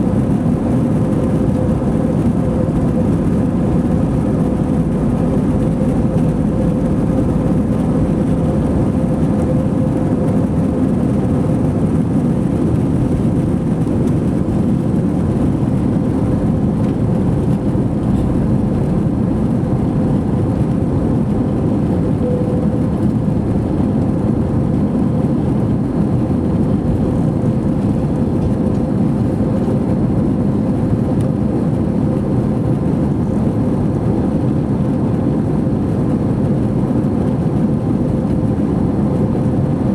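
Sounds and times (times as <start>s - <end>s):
airplane cabin engine and airflow rush: 0.0s - 39.9s.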